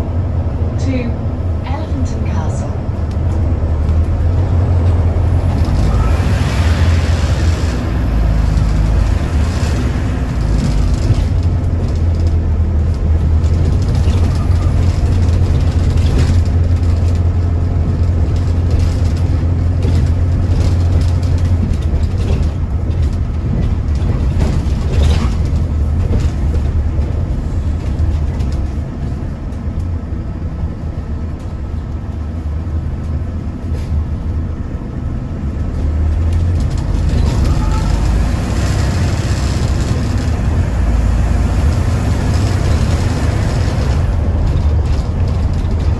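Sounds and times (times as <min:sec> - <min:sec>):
bus engine and road noise: 0:00.0 - 0:45.9.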